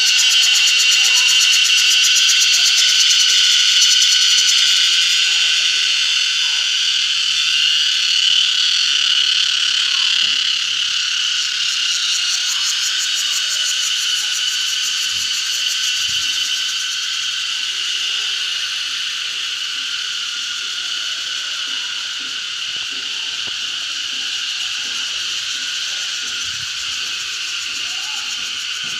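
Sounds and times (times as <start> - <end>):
cicadas buzzing: 0.0 - 28.9.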